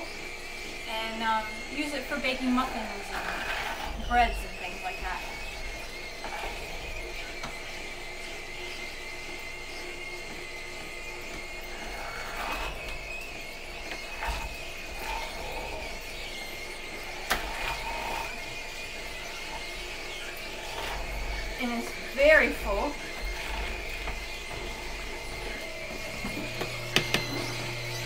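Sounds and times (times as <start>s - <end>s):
juicer whining and squealing: 0.0s - 28.0s.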